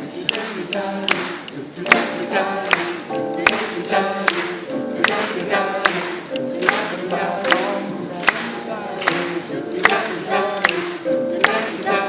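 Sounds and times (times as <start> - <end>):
voices singing wordless melody: 0.0 - 12.0
clap-like beats: 0.2 - 12.0.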